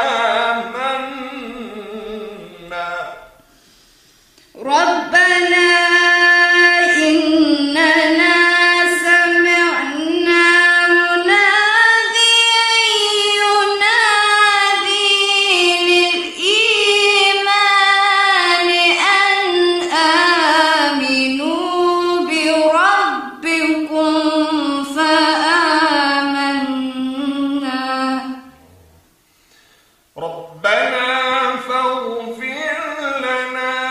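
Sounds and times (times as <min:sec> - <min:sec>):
woman reciting melodically: 0:00.0 - 0:03.5, 0:04.5 - 0:28.6, 0:30.6 - 0:33.9.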